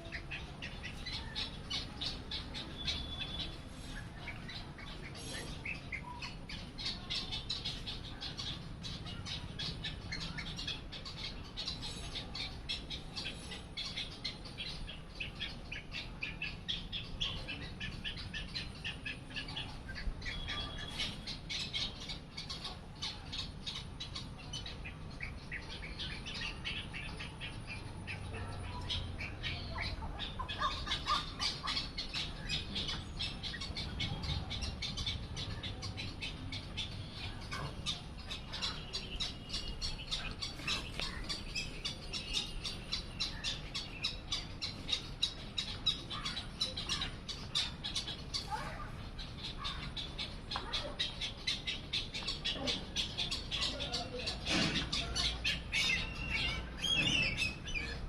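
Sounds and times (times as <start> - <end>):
bird chicks chirping: 0.0 - 58.0.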